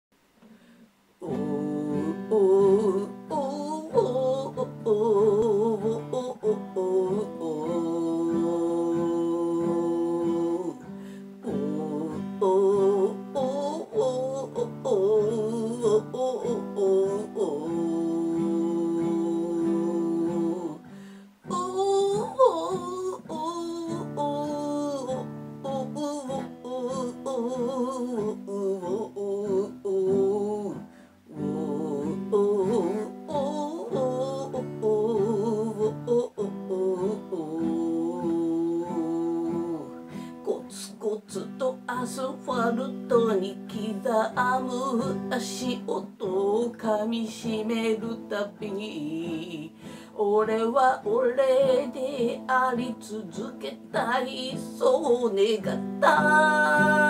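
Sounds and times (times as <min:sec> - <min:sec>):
acoustic guitar strumming: 0:00.4 - 0:57.0
woman singing with vibrato: 0:01.2 - 0:57.0.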